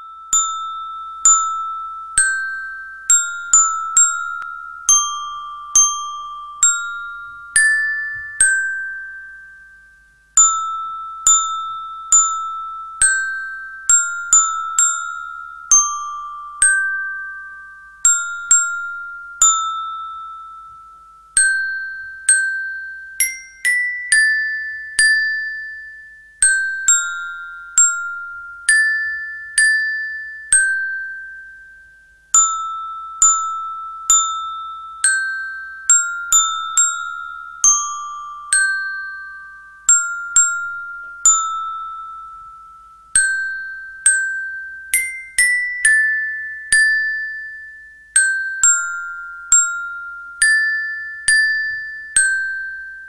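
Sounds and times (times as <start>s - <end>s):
bell-like melody: 0.0s - 53.0s.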